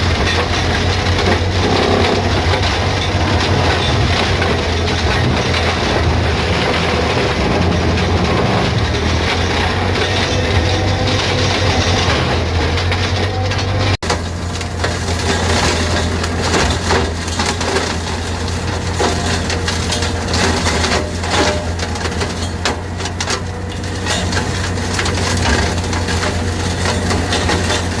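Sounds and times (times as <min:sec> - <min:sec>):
wood chipper humming: 0:00.0 - 0:28.0.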